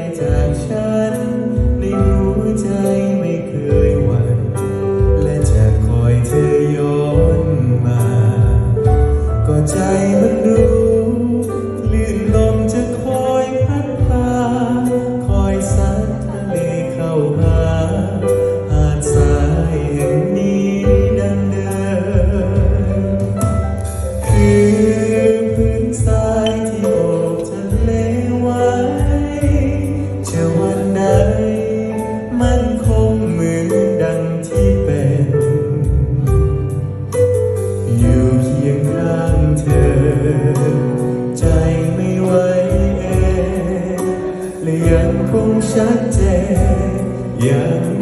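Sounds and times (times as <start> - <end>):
drum kit with cymbals: 0.0 - 48.0
man singing into a microphone: 0.0 - 48.0.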